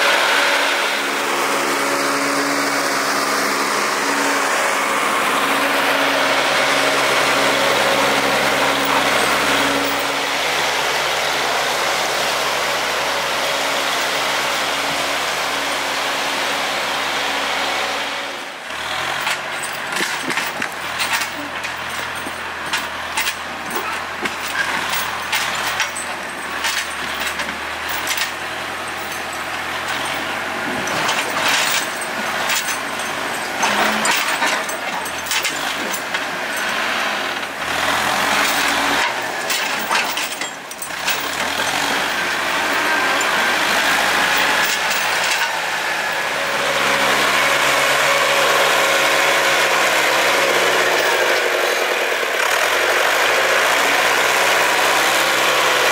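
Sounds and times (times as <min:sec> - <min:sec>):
diesel engine running: 0:00.0 - 0:55.9
clanks and rattles: 0:02.7 - 0:10.5, 0:18.7 - 0:55.8.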